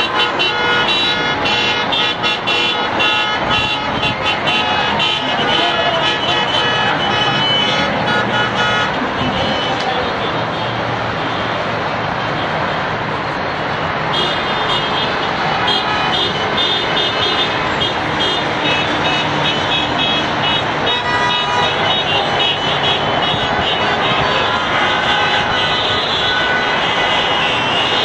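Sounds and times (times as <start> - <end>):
city traffic: 0.0 - 28.0
crowds: 0.0 - 28.0.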